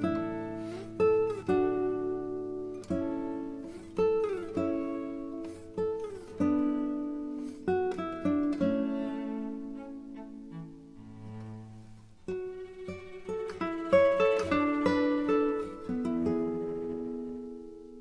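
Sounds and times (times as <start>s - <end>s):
acoustic guitar slow chords: 0.0s - 18.0s.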